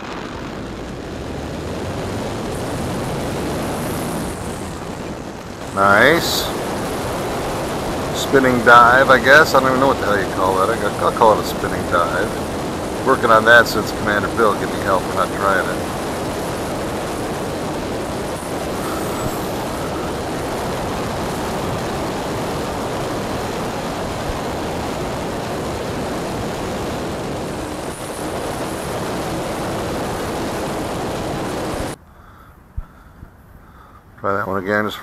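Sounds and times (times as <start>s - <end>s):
propeller noise: 0.0s - 32.0s
wind rushing: 0.0s - 32.0s.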